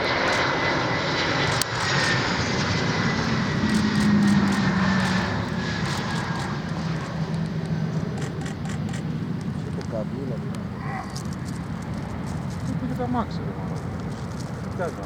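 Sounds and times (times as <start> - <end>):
jet airliner passing with high whine: 0.0 - 15.0.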